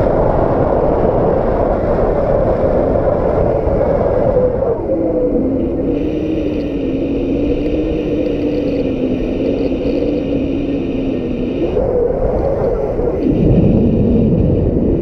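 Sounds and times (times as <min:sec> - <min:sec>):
steady droning tone: 0:00.0 - 0:15.0
strong wind buffeting: 0:00.0 - 0:15.0.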